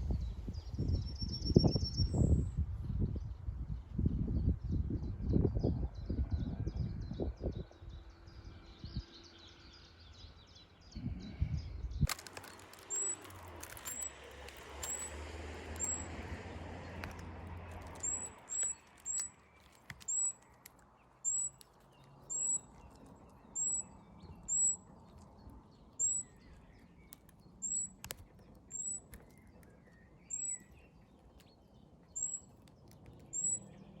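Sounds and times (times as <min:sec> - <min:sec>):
fainter lower bird chirps: 0:00.1 - 0:02.5, 0:08.1 - 0:34.0.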